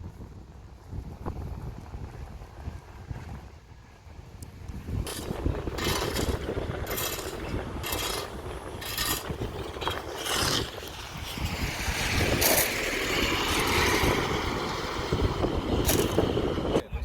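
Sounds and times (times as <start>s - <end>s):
vehicle rumbling on rough road: 0.0s - 17.0s.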